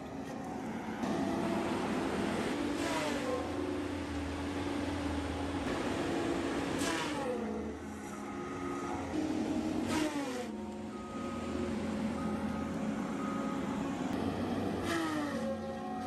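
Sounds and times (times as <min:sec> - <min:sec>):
heavy machine engine running: 0:00.0 - 0:16.0.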